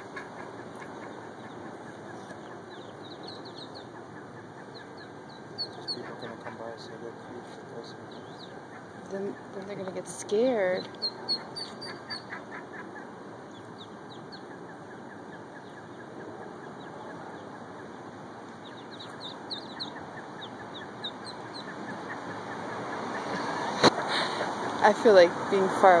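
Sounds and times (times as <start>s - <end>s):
ducklings peeping: 0.0s - 24.8s
steady background hiss: 0.0s - 26.0s.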